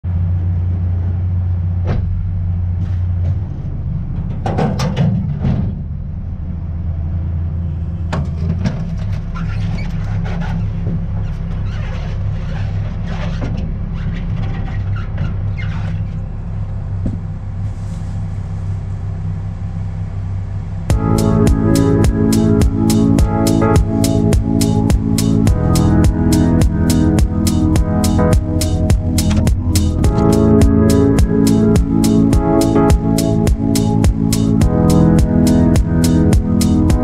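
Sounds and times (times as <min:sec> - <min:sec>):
vehicle engine hum: 0:00.0 - 0:37.0.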